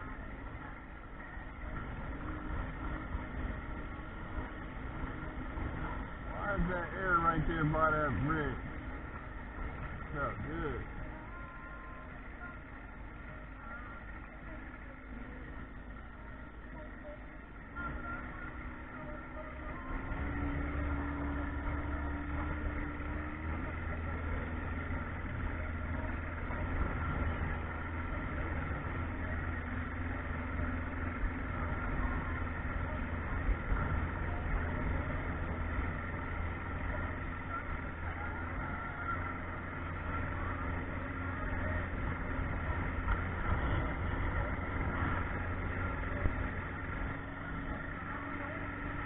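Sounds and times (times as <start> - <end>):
boat motor running: 0.0 - 49.0.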